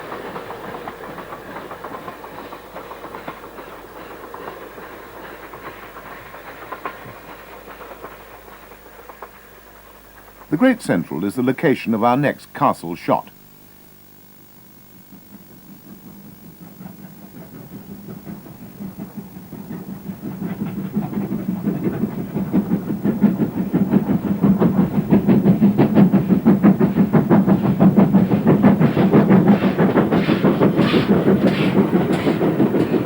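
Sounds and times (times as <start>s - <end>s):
wheels clattering on rail: 0.0s - 11.1s, 15.1s - 33.0s
steam locomotive exhaust beats: 0.0s - 33.0s.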